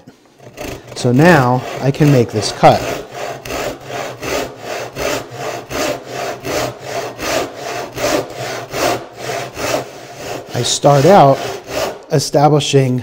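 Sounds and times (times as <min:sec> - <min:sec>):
hand saw rasping through wood: 0:00.3 - 0:12.5.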